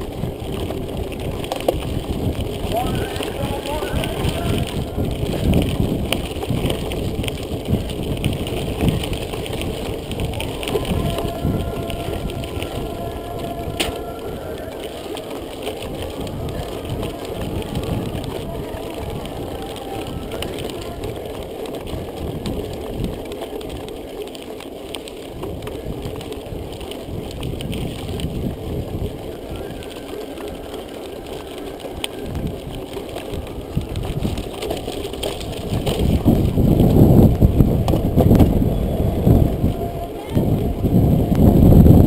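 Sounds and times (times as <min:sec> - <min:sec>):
bike rattling clicks: 0:00.0 - 0:41.7
bike tyre rumble: 0:00.0 - 0:42.0.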